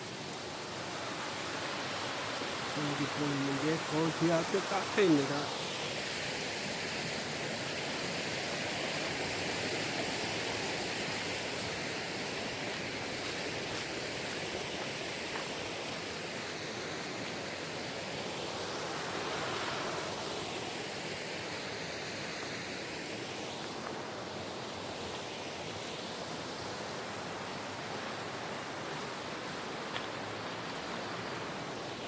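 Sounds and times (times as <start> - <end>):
stream rushing: 0.0 - 32.0.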